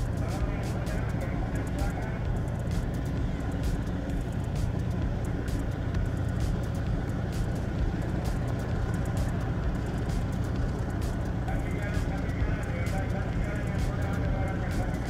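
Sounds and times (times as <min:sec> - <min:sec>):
diesel boat engine rumbling: 0:00.0 - 0:15.0.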